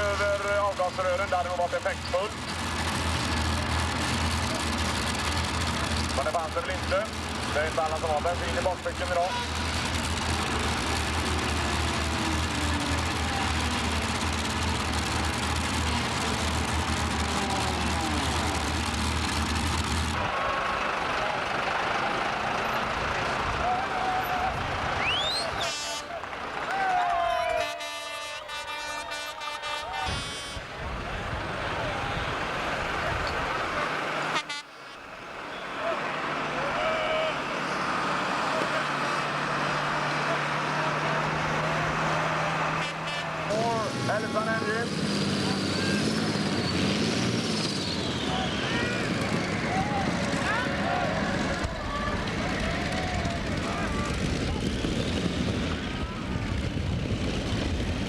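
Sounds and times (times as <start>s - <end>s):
heavy tractor engine running: 0.0s - 58.0s.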